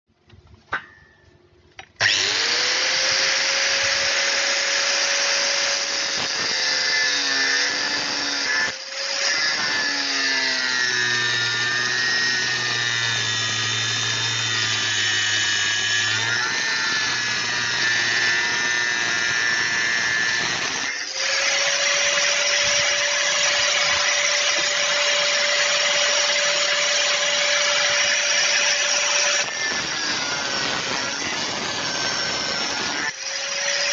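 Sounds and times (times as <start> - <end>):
angle grinder whining: 2.0 - 33.9.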